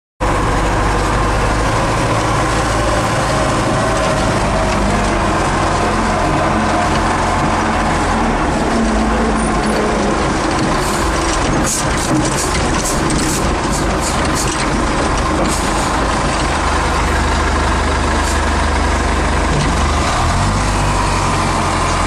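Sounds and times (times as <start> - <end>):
diesel engine running: 0.2 - 22.0.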